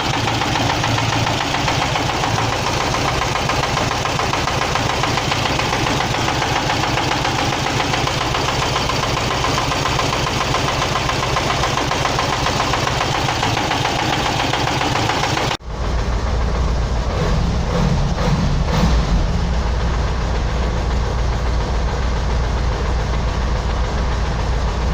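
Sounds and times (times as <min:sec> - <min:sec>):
rattling car engine running: 0:00.0 - 0:24.9.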